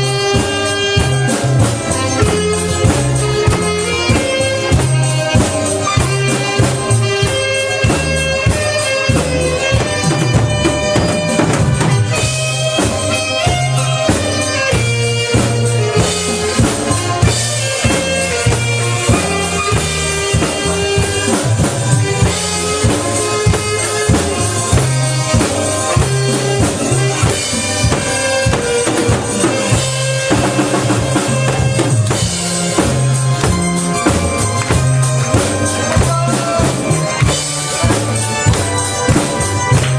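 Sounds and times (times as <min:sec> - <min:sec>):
drum kit beat: 0:00.0 - 0:39.9
saxophone melody: 0:00.0 - 0:39.9.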